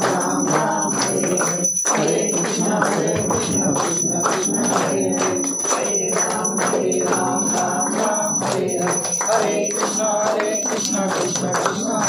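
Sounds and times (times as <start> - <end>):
bell ringing: 0.0 - 12.0
group singing devotional song: 0.0 - 12.0
people clapping a beat: 0.0 - 12.0.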